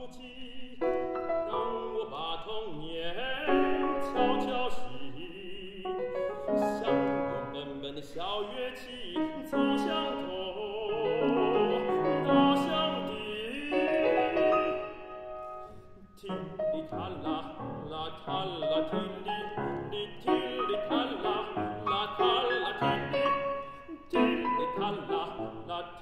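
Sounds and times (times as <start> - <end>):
tenor singing operatically: 0.0 - 15.3, 16.1 - 26.0
grand piano accompaniment: 0.0 - 26.0.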